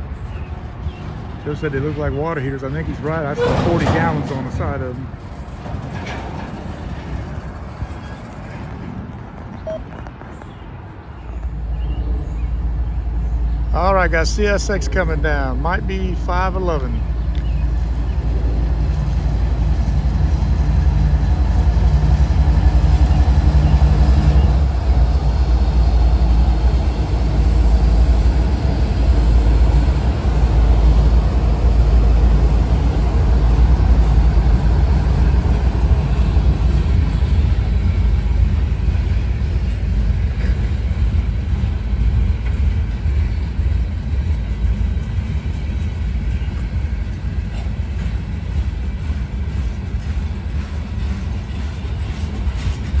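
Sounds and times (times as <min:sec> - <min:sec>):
diesel locomotive engines passing: 0:00.0 - 0:53.0
freight cars rumbling over rails: 0:00.0 - 0:53.0.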